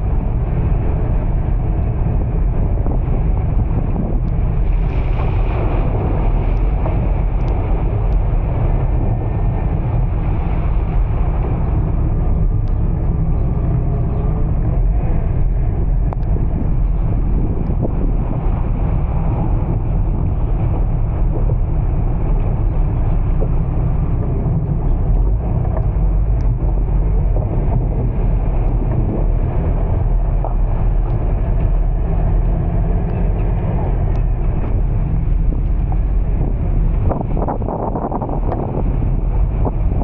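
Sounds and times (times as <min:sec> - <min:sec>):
vehicle rumbling: 0:00.0 - 0:40.0
wind noise on microphone: 0:00.0 - 0:40.0.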